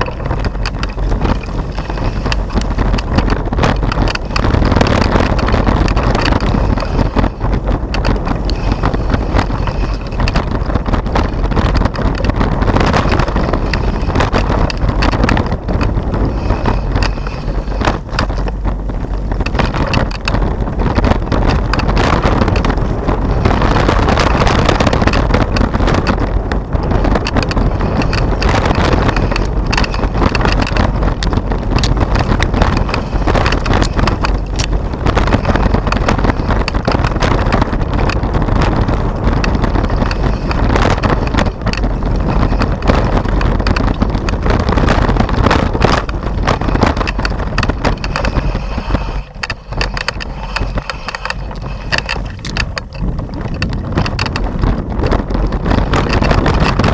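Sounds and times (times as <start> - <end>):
bike rattling over bumps: 0.0 - 56.9
tyres on dirt: 0.0 - 56.9
wind rushing over microphone: 0.0 - 56.9.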